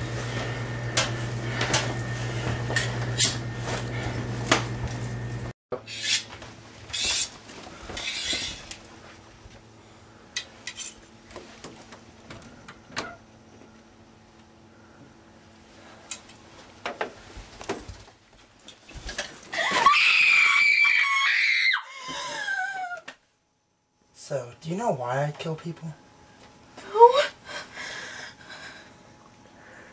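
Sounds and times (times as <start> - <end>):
steady low hum: 0.0 - 19.6, 22.2 - 29.9.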